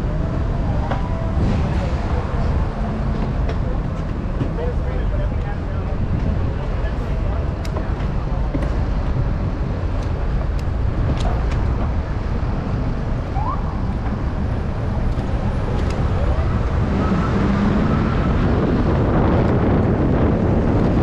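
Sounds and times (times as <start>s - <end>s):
traffic rumble: 0.0s - 21.0s
wind buffeting microphone: 0.0s - 21.0s.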